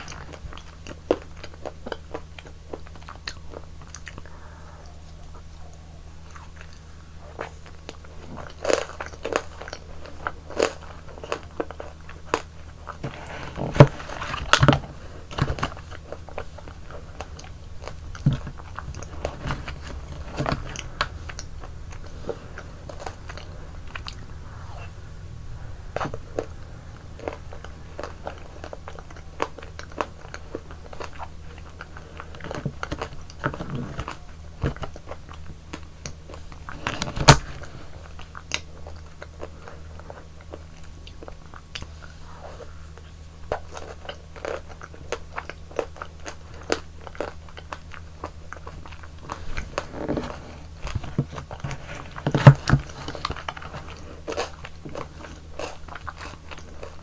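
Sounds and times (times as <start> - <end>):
sticky eating chews: 0.0 - 57.0.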